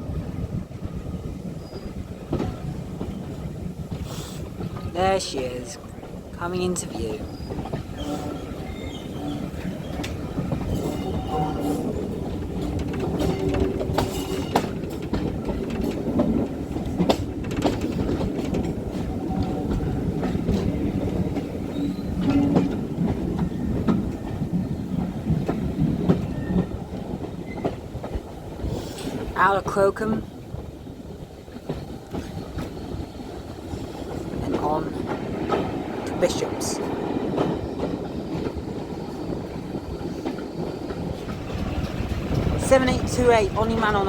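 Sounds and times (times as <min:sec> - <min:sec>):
steam train rumbling past: 0:00.0 - 0:44.0
wheels clicking over rail joints: 0:01.5 - 0:44.0.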